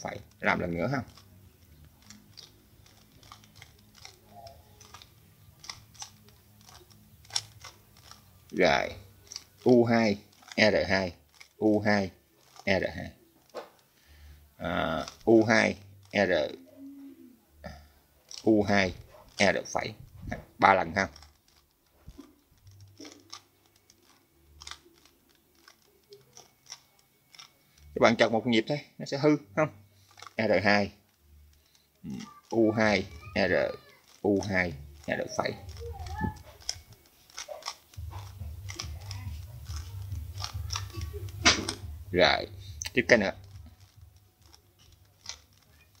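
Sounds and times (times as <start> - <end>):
puzzle cube plastic clicks: 0.0 - 14.2, 14.8 - 16.5, 18.2 - 28.2, 30.0 - 46.0.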